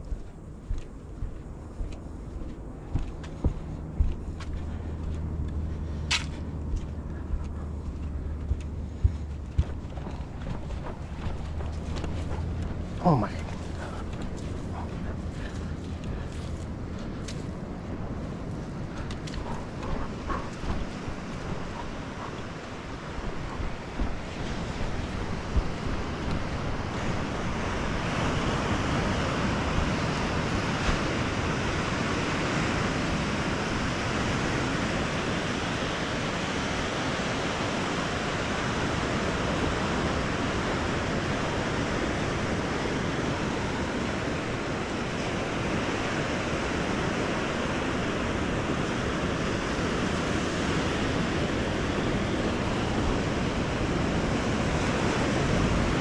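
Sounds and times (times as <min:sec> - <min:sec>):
ocean surf breaking on beach: 0:07.9 - 0:56.0.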